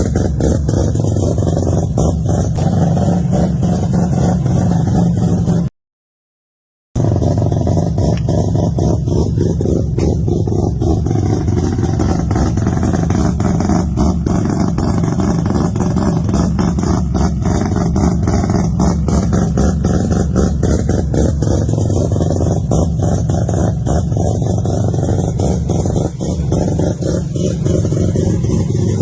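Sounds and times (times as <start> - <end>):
exhaust crackles: 0.0 - 5.7, 7.0 - 29.0
rotary engine running: 0.0 - 5.7, 7.0 - 29.0.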